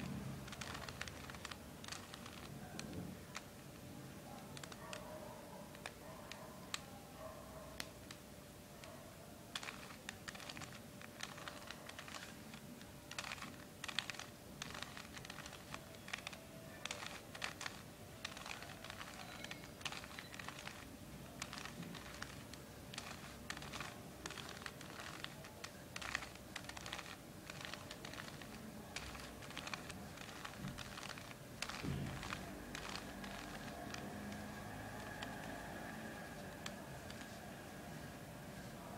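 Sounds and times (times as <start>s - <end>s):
puzzle cube clicking as turned: 0.0s - 3.6s, 4.5s - 6.9s, 7.8s - 8.2s, 9.5s - 37.4s.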